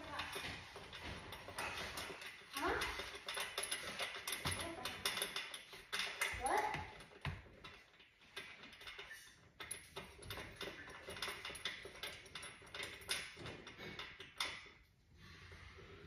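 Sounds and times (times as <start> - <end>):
tools and parts clicking: 0.1 - 14.8.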